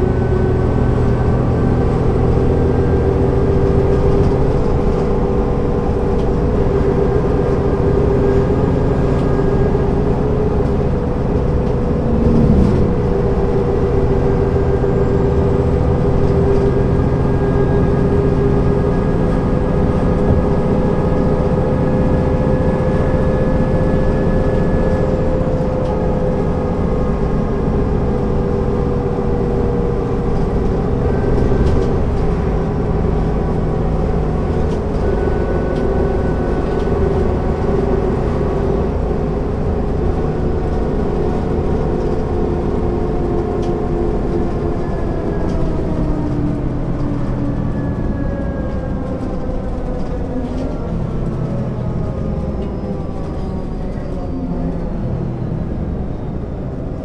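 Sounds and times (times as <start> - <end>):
bus diesel engine drone: 0.0 - 57.0
road rumble: 0.0 - 57.0.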